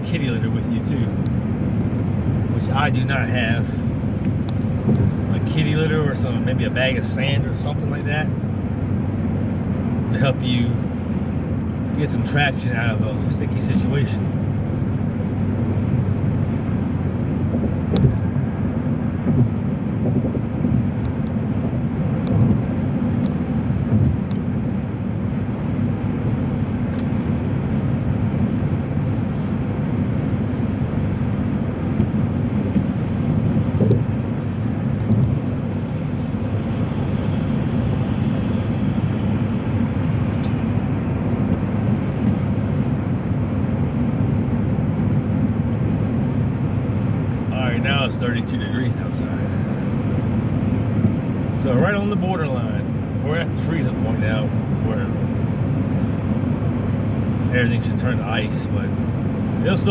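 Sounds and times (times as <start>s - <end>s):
car driving on wet road: 0.0s - 59.9s.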